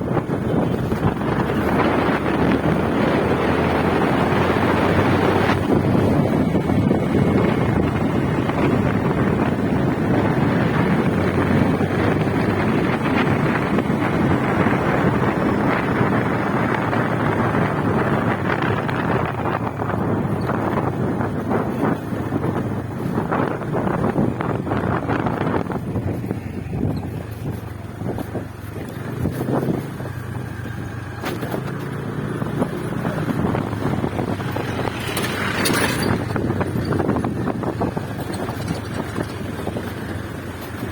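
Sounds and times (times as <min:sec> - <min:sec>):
motorcycle rumble: 0:00.0 - 0:40.9
wind buffeting microphone: 0:00.0 - 0:40.9.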